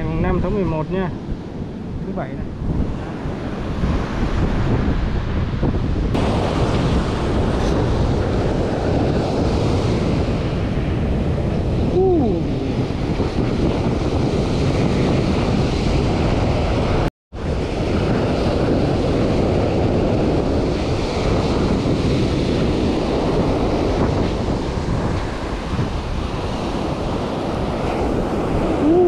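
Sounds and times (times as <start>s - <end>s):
wind buffeting microphone: 0.0s - 29.0s
surf breaking on beach: 2.7s - 29.0s.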